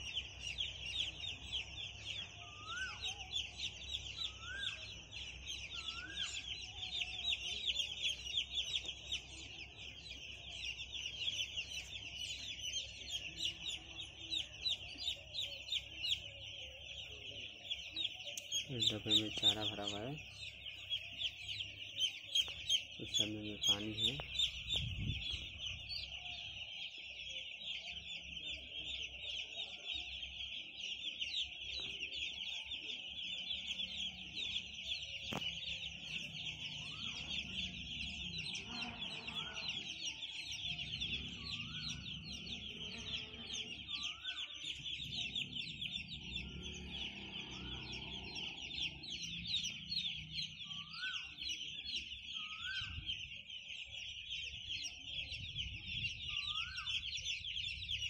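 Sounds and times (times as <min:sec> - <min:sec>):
chicks peeping chorus: 0:00.0 - 0:58.0.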